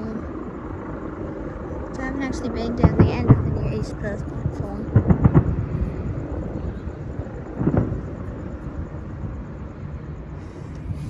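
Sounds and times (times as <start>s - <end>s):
distant fireworks booming: 0.0s - 11.0s
low rumble: 0.0s - 11.0s.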